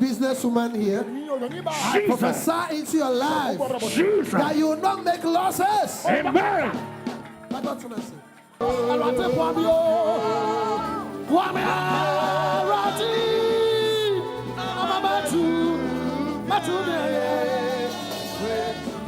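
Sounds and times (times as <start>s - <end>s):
gospel musical accompaniment: 0.0s - 19.0s.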